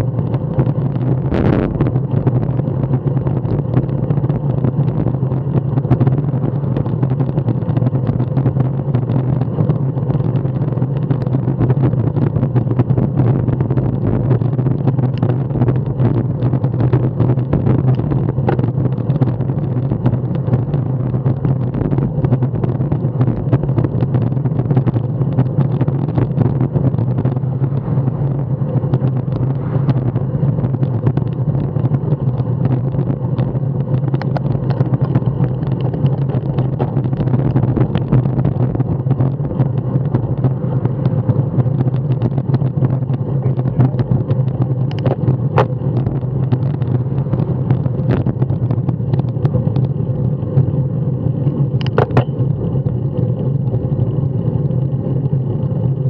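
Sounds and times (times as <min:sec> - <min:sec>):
tyre and road noise: 0:00.0 - 0:56.0
wind buffeting microphone: 0:00.0 - 0:56.0.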